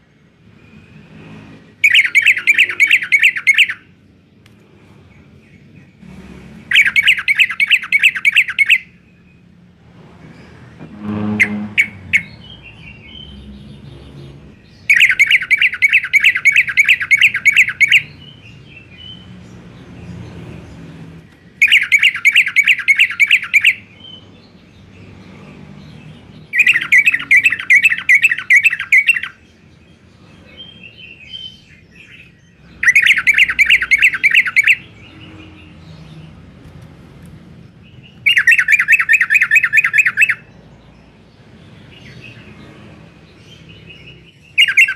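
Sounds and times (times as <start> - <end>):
soft bird chirps: 0.0 - 9.6, 10.2 - 36.9, 37.6 - 44.9
bird singing rapid repeated notes: 0.0 - 44.9.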